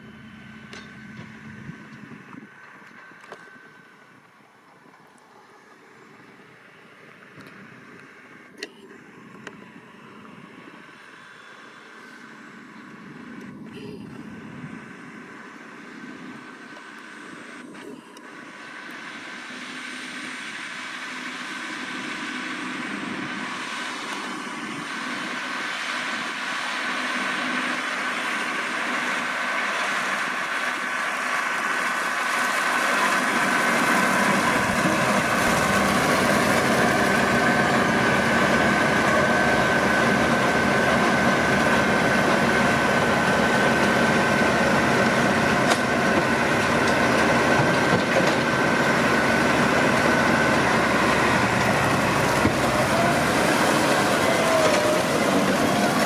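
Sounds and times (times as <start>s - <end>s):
tractor and baler whine: 0.0s - 56.0s.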